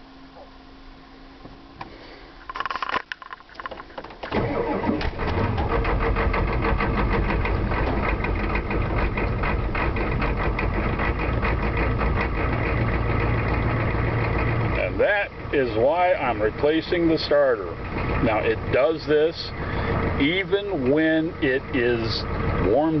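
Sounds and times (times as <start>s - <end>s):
starter motor cranking engine: 2.5s - 23.0s.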